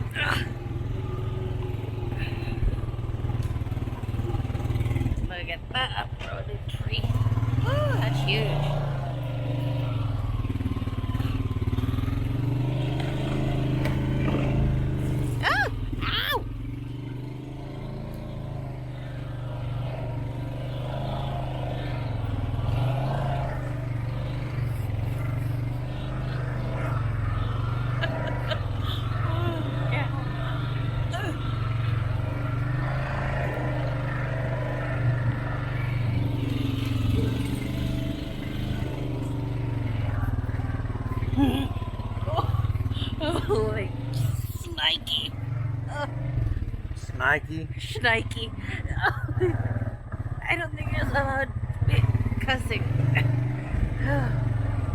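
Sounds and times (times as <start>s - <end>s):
all-terrain vehicle engine running: 0.0s - 54.9s.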